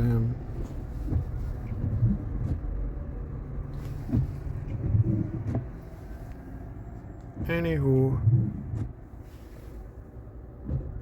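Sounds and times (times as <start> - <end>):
road and tyre rumble: 0.0 - 11.0.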